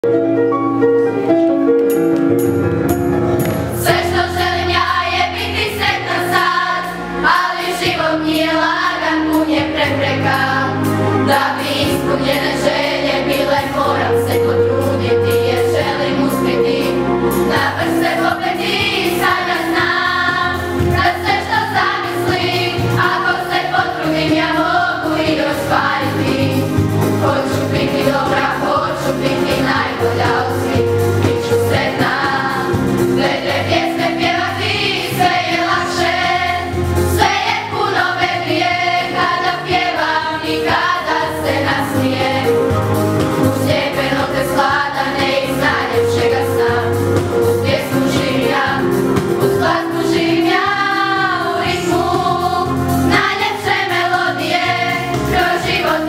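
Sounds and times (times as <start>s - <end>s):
instrumental accompaniment: 0.0s - 56.0s
children's choir singing: 3.7s - 56.0s.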